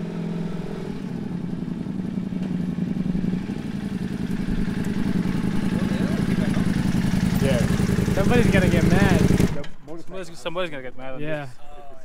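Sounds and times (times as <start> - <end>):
motorcycle engine at low speed: 0.0 - 9.8.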